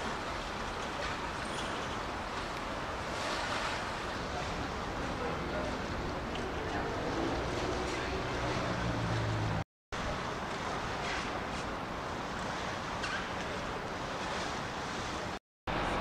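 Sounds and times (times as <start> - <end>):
rushing water: 0.0 - 16.0
wind: 0.0 - 16.0.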